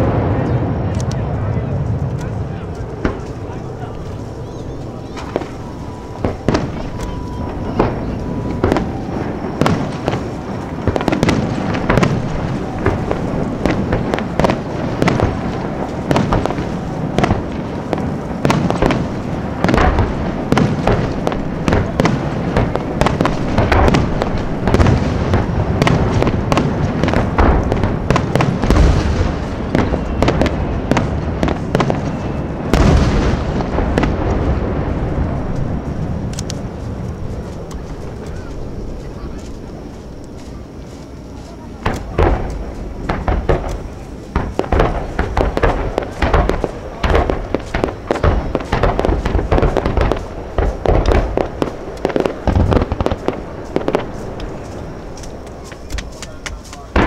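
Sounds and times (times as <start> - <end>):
low firework booms: 0.0 - 40.8, 41.7 - 57.0
fireworks bursting with sharp bangs: 0.0 - 57.0
fireworks crackling: 0.0 - 57.0.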